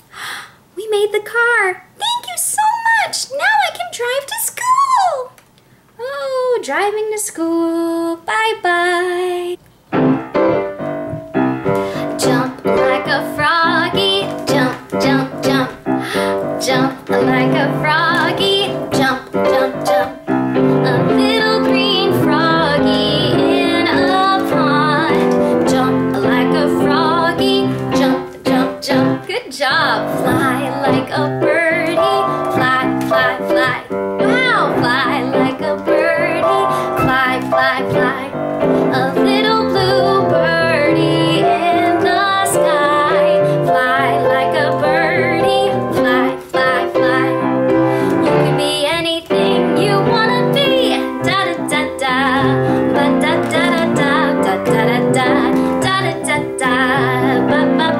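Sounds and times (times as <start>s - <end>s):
woman singing children's song: 0.8s - 5.4s, 6.0s - 9.6s, 11.7s - 57.9s
piano backing: 9.8s - 57.9s.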